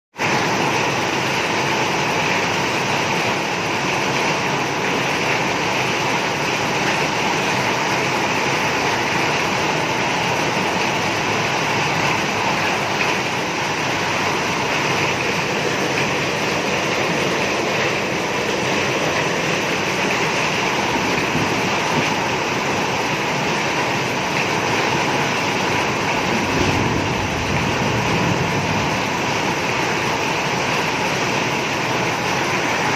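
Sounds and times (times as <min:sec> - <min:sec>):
heavy rain pouring: 0:00.1 - 0:32.9.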